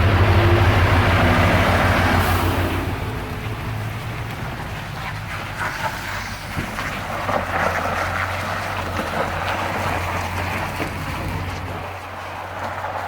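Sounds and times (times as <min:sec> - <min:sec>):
road and wind noise: 0:00.0 - 0:13.0
truck engine droning: 0:00.0 - 0:13.0.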